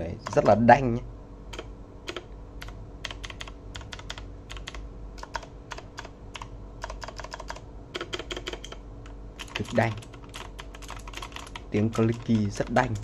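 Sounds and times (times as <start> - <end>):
clicky keyboard typing: 0.2 - 0.6, 1.5 - 13.0.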